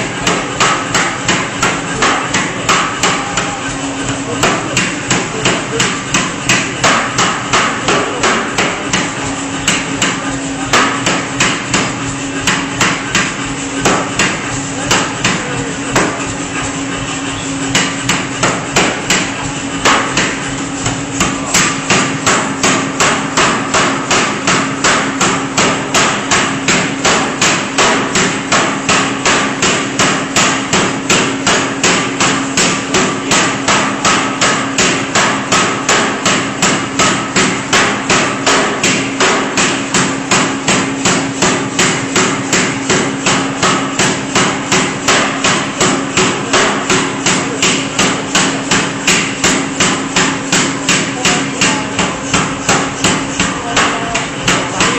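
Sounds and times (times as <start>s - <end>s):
forging hammer striking: 0.0s - 54.9s.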